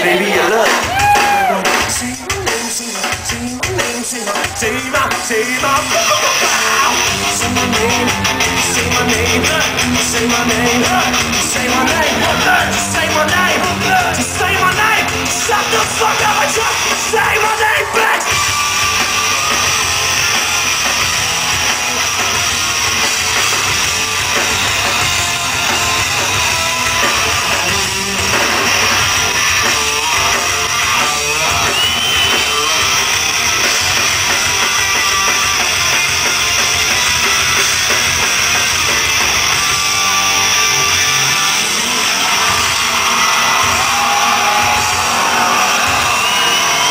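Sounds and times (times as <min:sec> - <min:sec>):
drum kit: 0:00.4 - 0:46.9
distorted electric guitar: 0:00.8 - 0:46.9.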